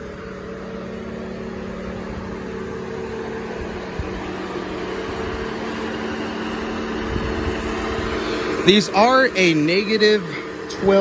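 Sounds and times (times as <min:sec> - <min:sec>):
cooling fan rushing: 0:00.0 - 0:11.0
pickup truck idling: 0:00.0 - 0:11.0.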